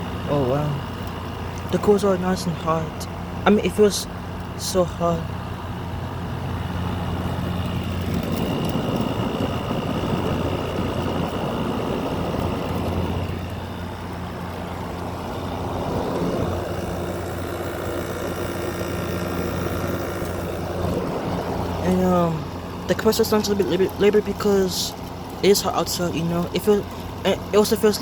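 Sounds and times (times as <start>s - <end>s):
air conditioner compressor hum: 0.0s - 28.0s
condenser fan blowing air: 0.0s - 28.0s.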